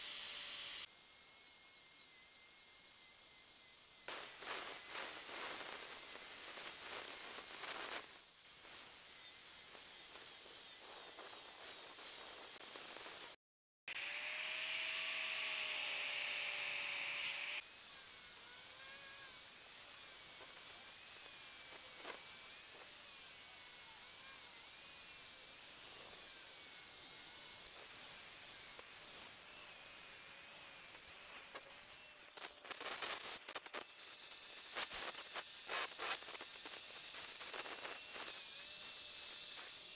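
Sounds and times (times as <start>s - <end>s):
angle grinder cutting wood: 0.0s - 39.9s.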